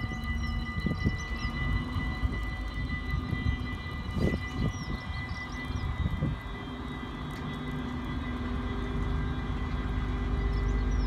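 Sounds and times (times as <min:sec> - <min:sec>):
high-pitched ringing tones: 0:00.0 - 0:11.0
locomotive engine drone: 0:00.0 - 0:11.0.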